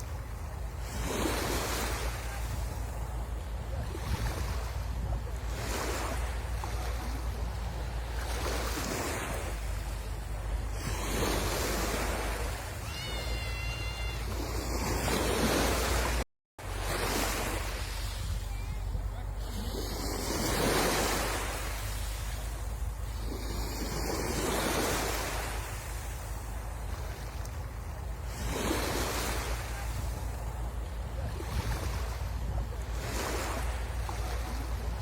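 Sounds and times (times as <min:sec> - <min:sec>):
sea waves breaking on shore: 0:00.0 - 0:35.0
wind rumbling on microphone: 0:00.0 - 0:35.0.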